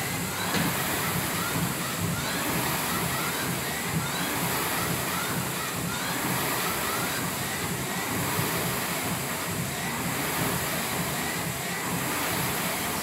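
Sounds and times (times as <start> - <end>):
rowing machine fan flywheel spinning: 0.0 - 13.0.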